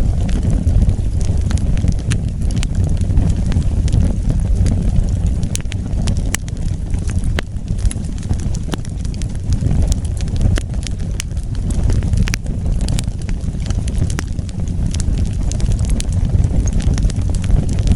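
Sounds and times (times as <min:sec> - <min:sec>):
fire crackles and pops: 0:00.0 - 0:17.9
low rumble of flames: 0:00.0 - 0:17.9.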